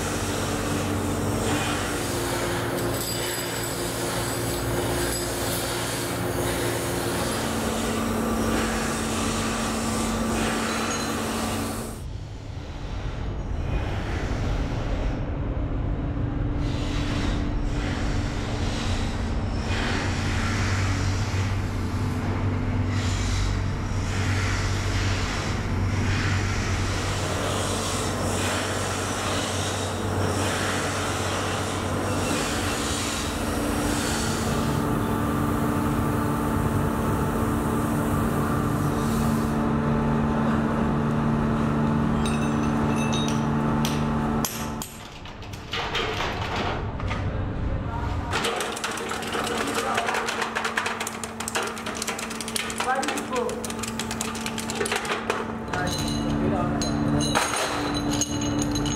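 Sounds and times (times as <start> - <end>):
factory machinery drone: 0.0 - 48.8.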